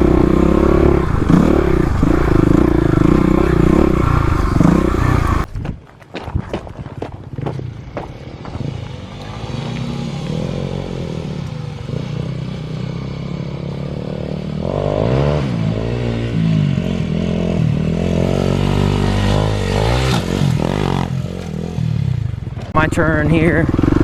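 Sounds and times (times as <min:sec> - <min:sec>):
dirt bike engine revving: 0:00.0 - 0:05.5, 0:07.3 - 0:24.0.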